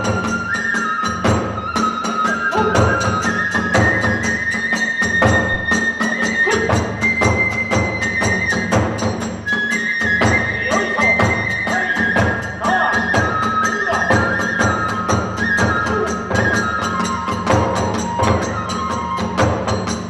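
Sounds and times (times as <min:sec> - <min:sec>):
bamboo flute high notes: 0:00.0 - 0:20.0
taiko drum beat: 0:02.5 - 0:04.4, 0:05.1 - 0:09.5, 0:10.1 - 0:20.0.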